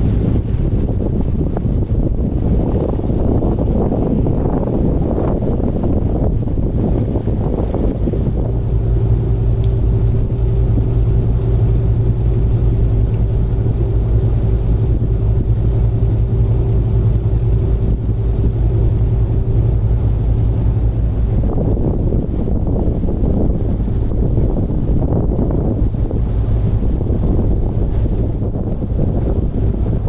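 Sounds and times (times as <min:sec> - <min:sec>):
wind buffeting microphone: 0:00.0 - 0:30.0
diesel engines droning: 0:01.5 - 0:30.0.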